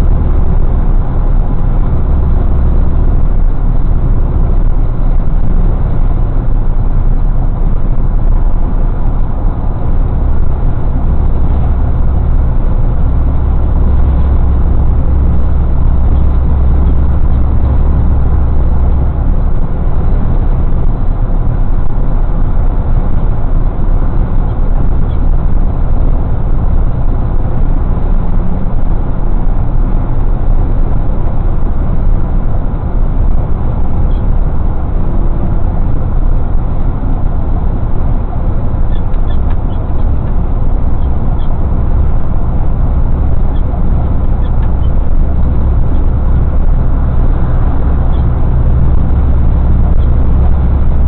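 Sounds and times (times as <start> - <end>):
truck engine and road noise: 0.0 - 51.0.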